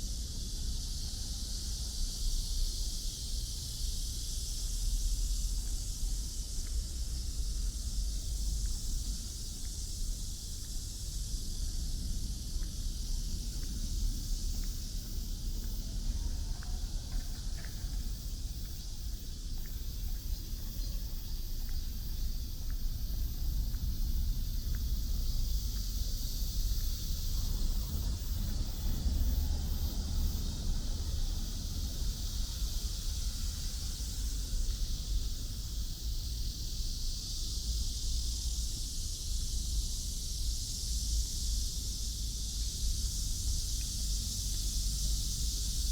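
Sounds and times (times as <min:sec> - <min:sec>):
steady high hiss: 0:00.0 - 0:45.9
wind rumble on microphone: 0:00.0 - 0:45.9.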